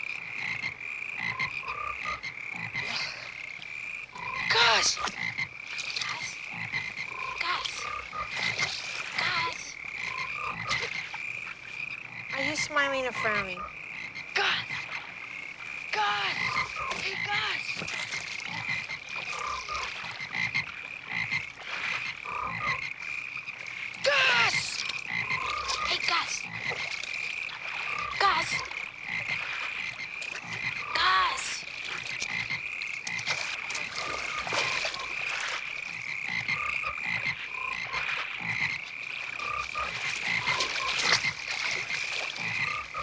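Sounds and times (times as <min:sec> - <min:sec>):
frogs croaking: 0:00.0 - 0:43.0
splashing in pond water: 0:00.0 - 0:43.0.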